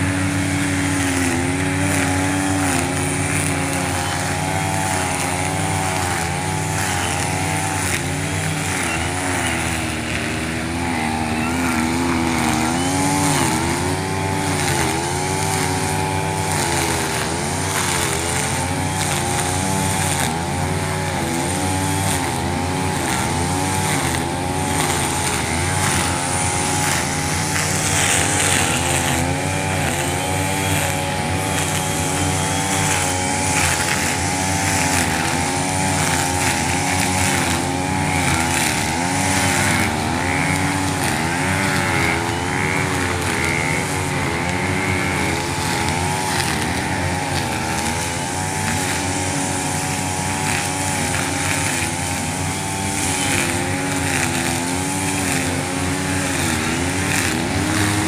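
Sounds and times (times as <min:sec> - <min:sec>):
brush cutter engine cutting grass: 0:00.0 - 0:58.0.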